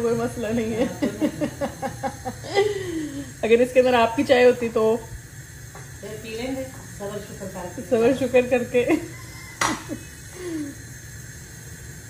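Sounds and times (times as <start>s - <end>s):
gas stove hissing: 0.0s - 12.0s.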